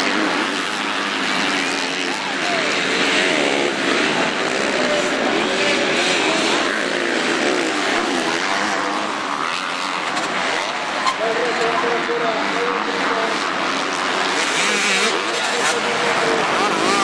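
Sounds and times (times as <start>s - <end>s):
motocross bikes accelerating: 0.0s - 17.0s.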